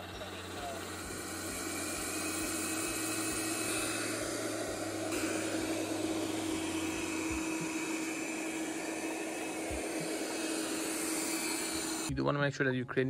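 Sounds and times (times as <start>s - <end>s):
robot vacuum running: 0.0s - 12.1s.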